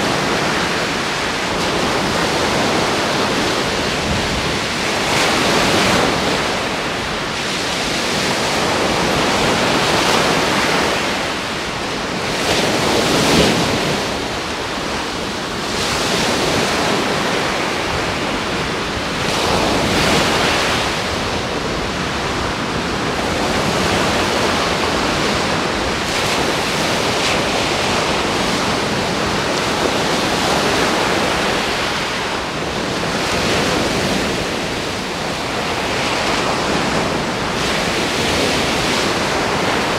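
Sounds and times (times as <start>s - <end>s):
surf breaking on beach: 0.0s - 39.9s.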